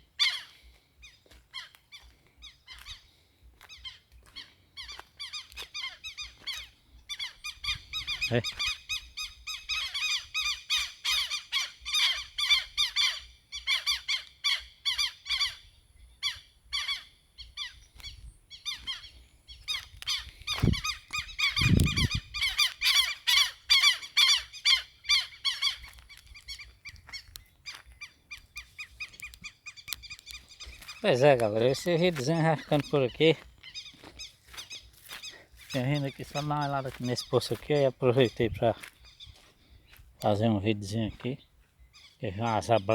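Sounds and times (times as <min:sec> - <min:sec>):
squeaky animal chirping calls: 0:00.2 - 0:03.0, 0:03.7 - 0:15.6, 0:16.2 - 0:39.5.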